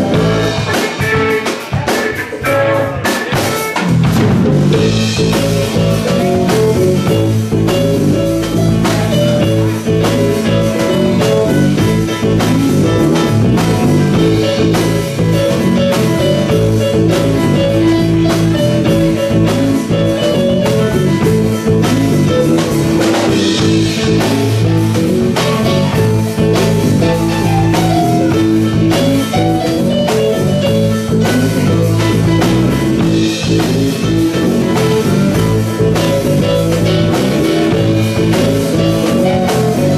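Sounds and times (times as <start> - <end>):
drum hits: 0.0 - 39.9
electric guitar lead: 0.0 - 39.9
rock band playing: 0.0 - 39.9.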